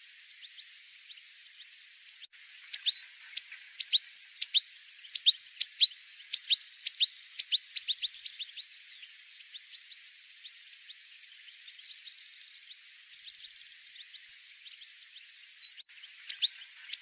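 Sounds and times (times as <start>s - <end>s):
finch sharp chirps: 0.3s - 17.0s.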